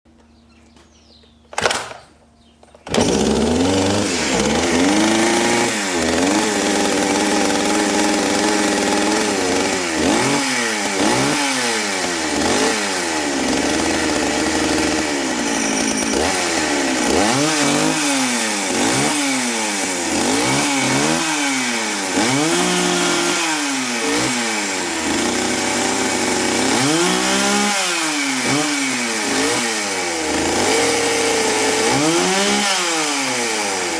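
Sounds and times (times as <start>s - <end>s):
chainsaw engine revving: 2.8s - 33.9s.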